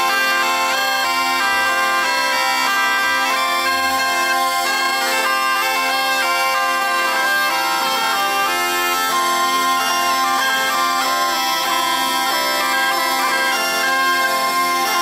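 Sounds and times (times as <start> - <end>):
bagpipe with steady drone: 0.0 - 15.0
shawm playing melody: 0.0 - 15.0.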